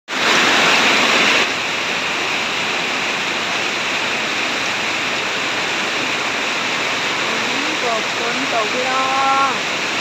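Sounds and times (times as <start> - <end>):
heavy rain falling: 0.1 - 10.0.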